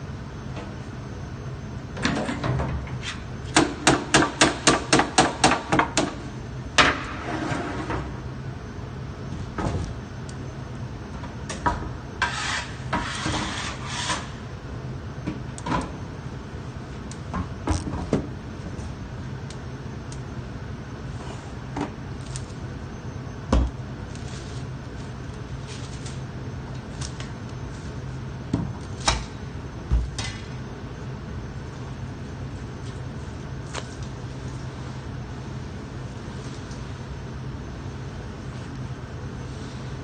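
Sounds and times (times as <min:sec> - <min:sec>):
oven burner hum: 0:00.0 - 0:40.0.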